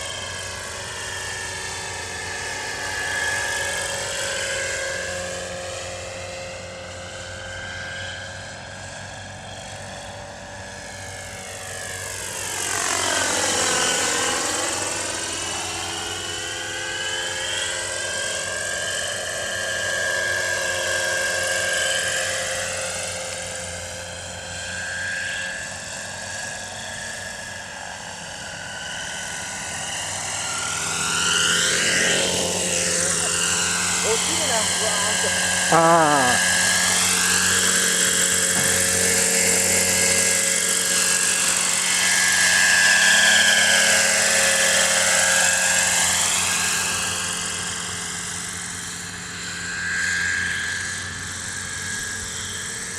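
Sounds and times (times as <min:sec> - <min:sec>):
rc helicopter engine and rotor: 0:00.0 - 0:52.9.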